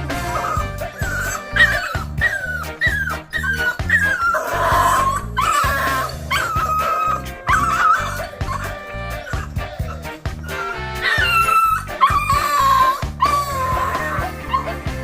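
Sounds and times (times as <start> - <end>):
background music with beat: 0.0 - 15.0
puppies whining and yipping: 0.1 - 15.0.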